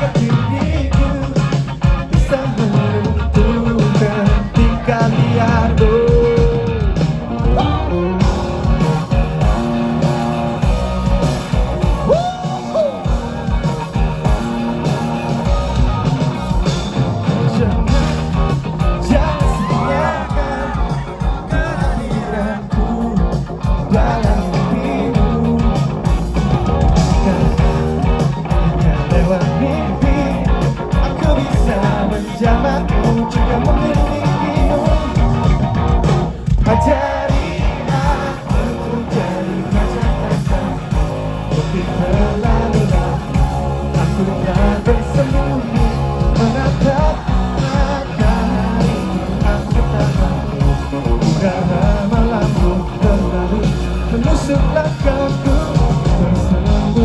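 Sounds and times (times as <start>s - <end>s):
lead singer singing: 0.0s - 57.0s
rock band playing live: 0.0s - 57.0s.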